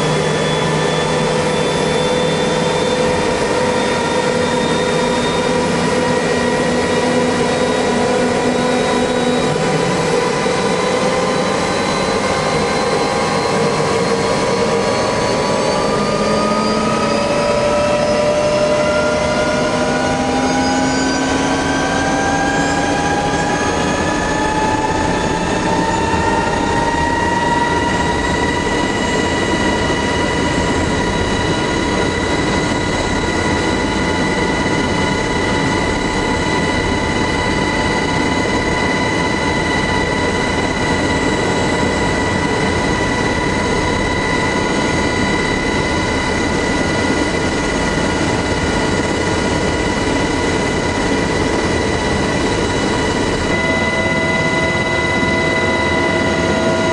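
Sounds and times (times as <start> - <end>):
helicopter engines and rotor running: 0.0 - 56.9.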